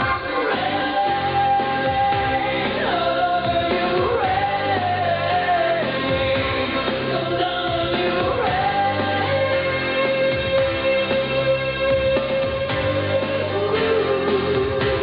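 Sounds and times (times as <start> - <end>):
person singing long sliding notes: 0.0 - 15.0
pop band backing: 0.0 - 15.0.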